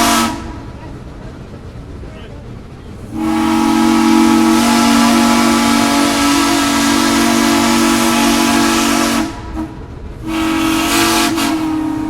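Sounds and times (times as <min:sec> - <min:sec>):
steam locomotive whistle: 0:00.0 - 0:00.8, 0:03.1 - 0:12.0
steam hissing: 0:00.0 - 0:12.0.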